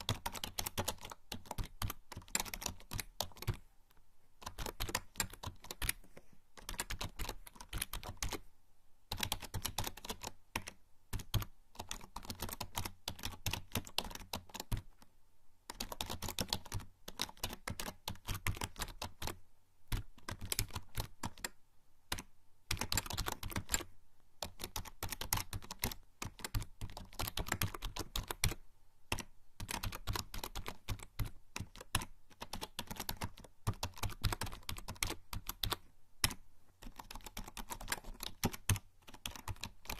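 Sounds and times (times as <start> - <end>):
typing on computer keyboard: 0.0 - 3.6, 4.4 - 6.0, 6.6 - 8.4, 9.1 - 15.1, 15.7 - 39.9.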